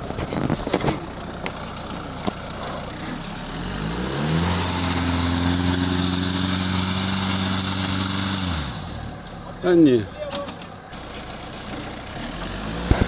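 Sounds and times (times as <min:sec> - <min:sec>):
car engine revving under load: 0:00.0 - 0:09.3, 0:10.8 - 0:13.0.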